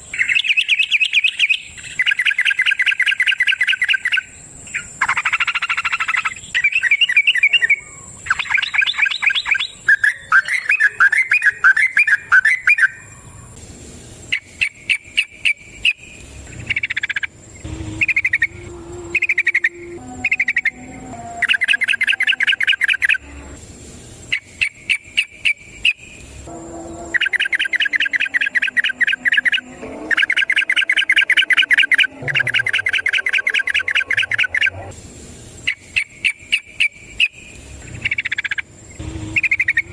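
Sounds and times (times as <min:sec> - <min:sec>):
bird chattering song: 0:00.0 - 0:13.6, 0:14.3 - 0:23.2, 0:27.1 - 0:34.9, 0:35.7 - 0:38.7, 0:39.3 - 0:39.9.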